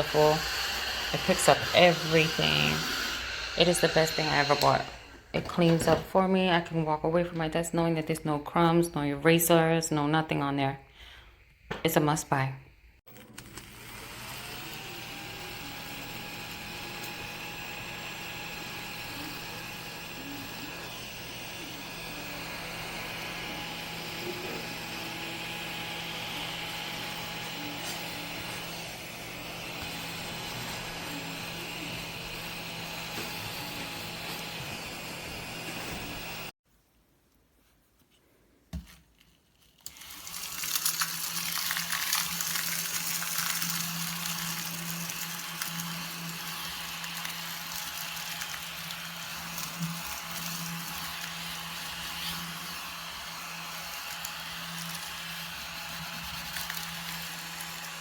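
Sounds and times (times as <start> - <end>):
desktop vacuum cleaner running: 0.0 - 7.5, 13.2 - 36.6, 39.9 - 58.0.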